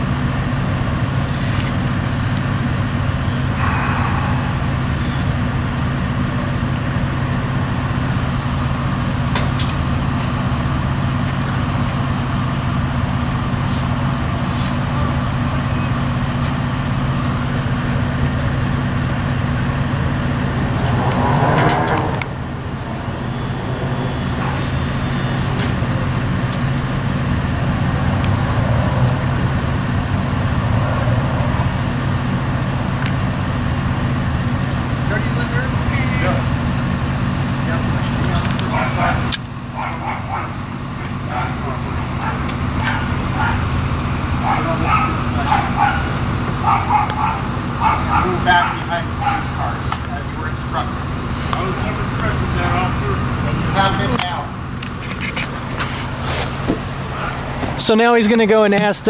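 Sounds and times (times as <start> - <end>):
heavy vehicle engine idling: 0.0 - 59.0.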